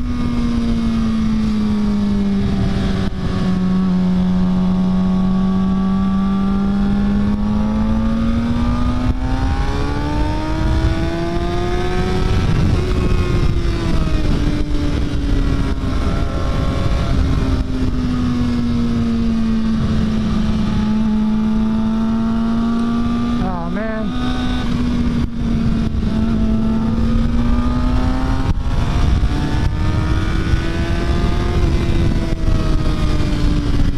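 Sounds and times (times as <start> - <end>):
motorcycle engine running: 0.0 - 33.9
wind rushing over microphone: 0.0 - 33.9.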